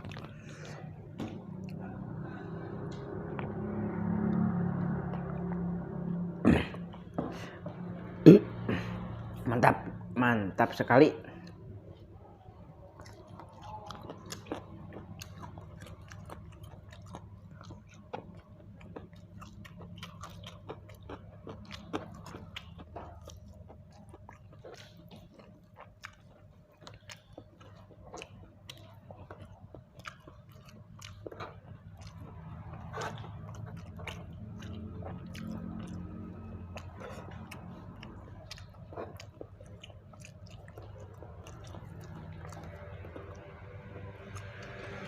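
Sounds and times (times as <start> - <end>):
person chewing food: 0.0 - 9.4, 11.2 - 45.0
steady low hum: 0.0 - 45.0.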